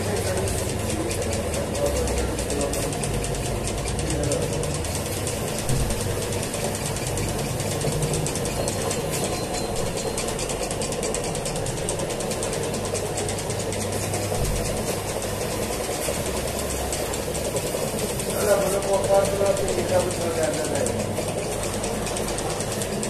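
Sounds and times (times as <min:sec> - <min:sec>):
dough mixer running: 0:00.0 - 0:23.0
fast mechanical ticking: 0:00.0 - 0:23.0.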